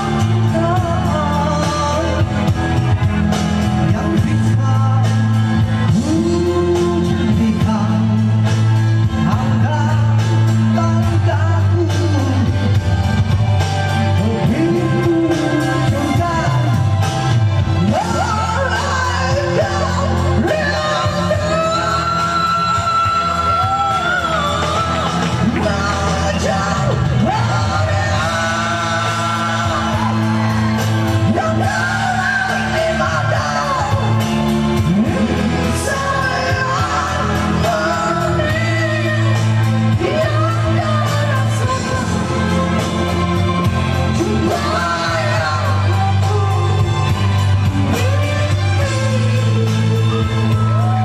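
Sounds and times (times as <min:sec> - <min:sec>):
man singing into a microphone: 0:00.0 - 0:13.2, 0:13.8 - 0:51.0
musical accompaniment: 0:00.0 - 0:51.0.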